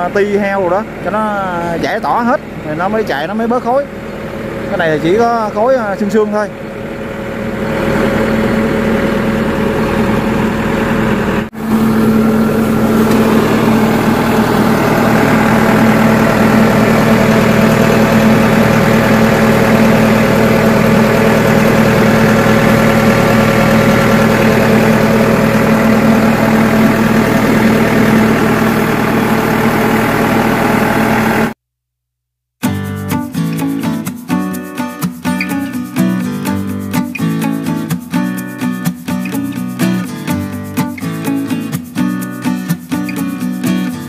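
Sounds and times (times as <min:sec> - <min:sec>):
excavator diesel engine running: 0:00.0 - 0:31.6, 0:33.0 - 0:44.0.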